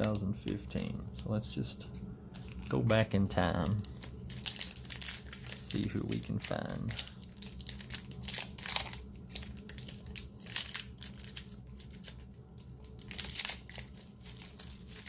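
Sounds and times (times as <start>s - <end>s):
plastic wrapper crinkling and tearing: 0.0s - 0.6s, 1.9s - 15.0s.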